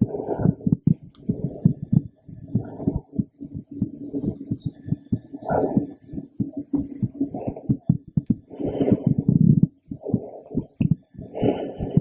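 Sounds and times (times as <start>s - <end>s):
heartbeat through stethoscope: 0.0s - 12.0s.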